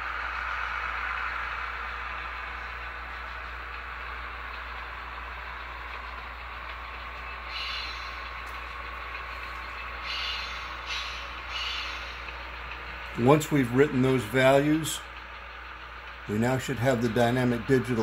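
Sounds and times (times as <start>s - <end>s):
model locomotive diesel engine sound: 0.0s - 18.0s.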